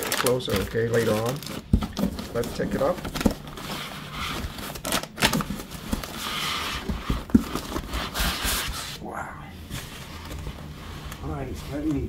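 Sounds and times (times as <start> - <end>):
plastic bags and foam rustling: 0.0 - 9.0, 9.6 - 12.0.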